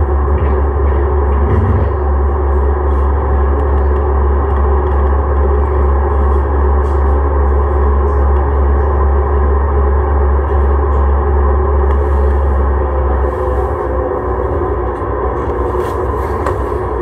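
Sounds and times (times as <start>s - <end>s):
deep electrical hum: 0.0s - 17.0s
steady whining tones: 0.0s - 17.0s.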